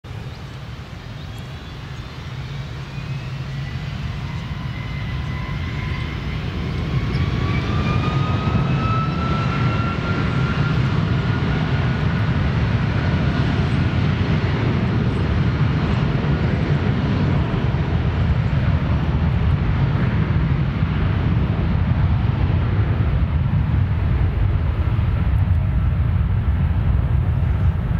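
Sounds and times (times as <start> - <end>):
jet engines spooling up: 0.3 - 23.0.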